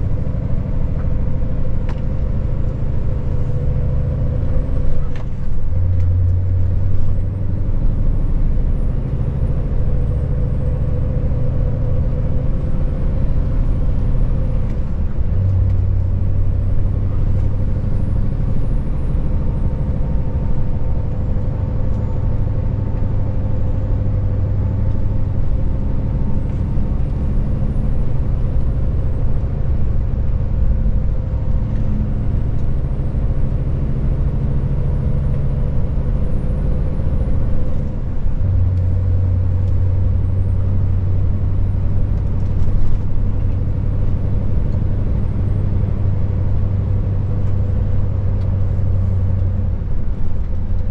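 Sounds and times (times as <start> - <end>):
diesel truck engine droning: 0.0 - 50.9
road noise: 0.0 - 50.9.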